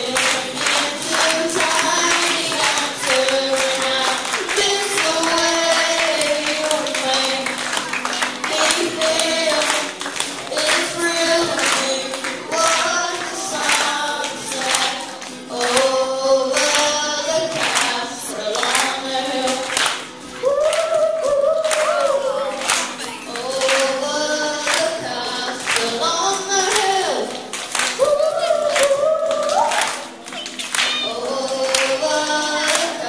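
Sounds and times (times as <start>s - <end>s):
boy singing into a microphone: 0.0s - 19.8s, 20.4s - 33.0s
acoustic guitar: 0.0s - 33.0s.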